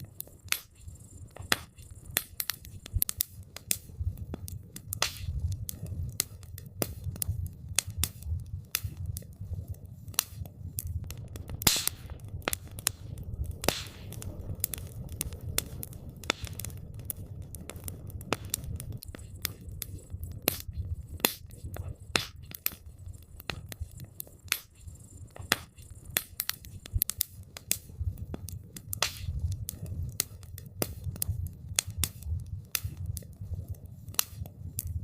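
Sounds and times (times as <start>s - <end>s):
campfire crackling and popping: 0.0s - 35.0s
low fire rumble: 0.0s - 35.0s.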